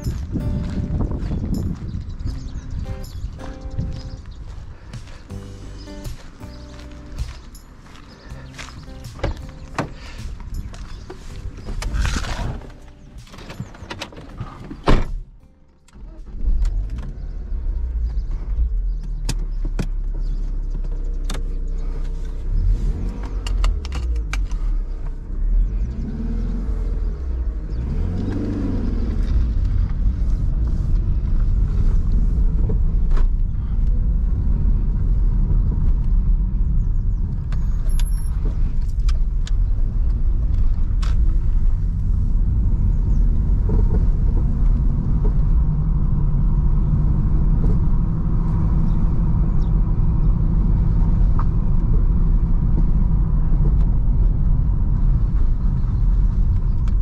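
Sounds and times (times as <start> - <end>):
car engine starting and accelerating: 0.0 - 57.0.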